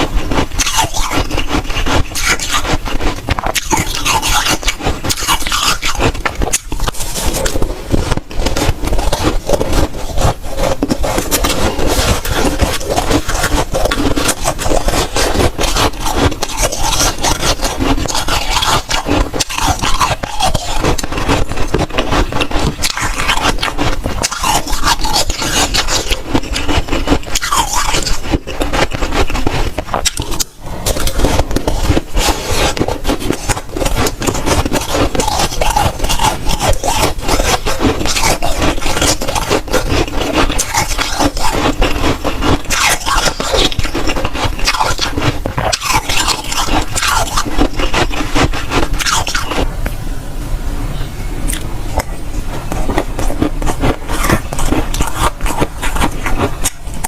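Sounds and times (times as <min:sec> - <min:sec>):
crunching frost being chewed: 0:00.0 - 0:50.0, 0:51.4 - 0:57.0.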